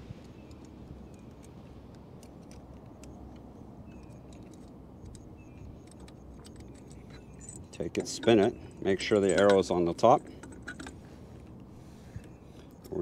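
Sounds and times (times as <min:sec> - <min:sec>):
allen key clicking on screws: 0:00.2 - 0:11.0.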